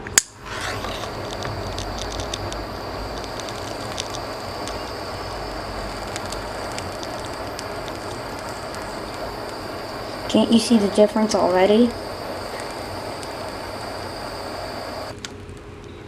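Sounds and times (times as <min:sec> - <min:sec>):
blowtorch flame hissing: 0:00.0 - 0:15.2
faint sharp ticks: 0:01.0 - 0:15.1.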